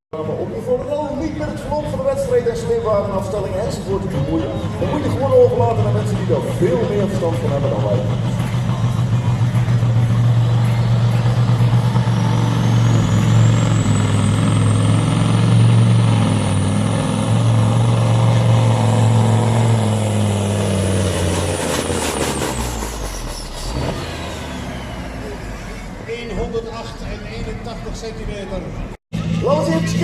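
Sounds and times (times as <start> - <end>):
diesel engine under load: 0.2 - 30.0.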